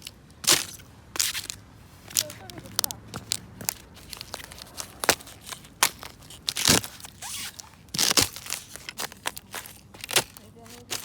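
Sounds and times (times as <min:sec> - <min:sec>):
ice cracking and crunching: 0:00.0 - 0:11.0.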